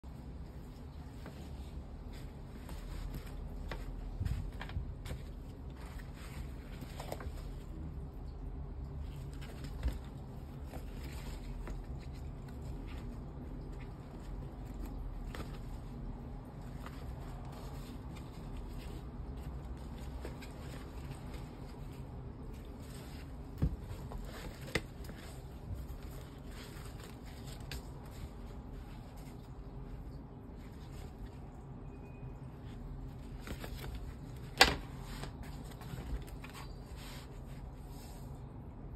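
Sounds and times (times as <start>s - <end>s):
fabric rustling: 0.0s - 38.9s.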